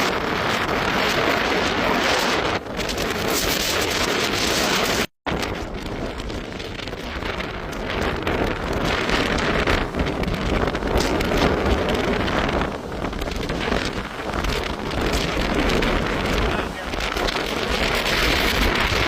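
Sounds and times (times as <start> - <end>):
heavy rain: 0.0 - 19.0
wind buffeting microphone: 0.0 - 19.0.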